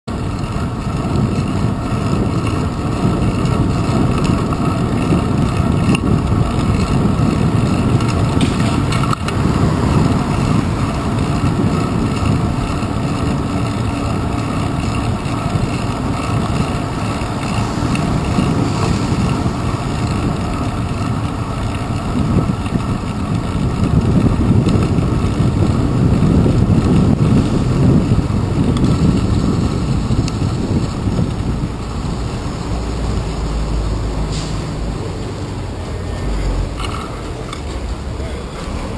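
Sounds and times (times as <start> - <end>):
road vibration: 0.0 - 38.9
wind rumble on microphone: 0.1 - 38.9.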